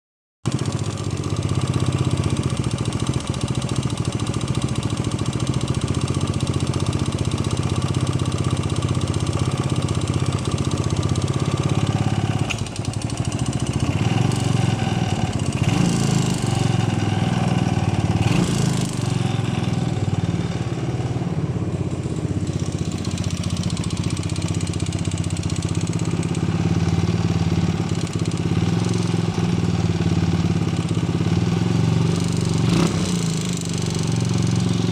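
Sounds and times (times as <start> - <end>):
engine clacking: 0.5 - 34.9
motorcycle engine running: 0.5 - 34.9.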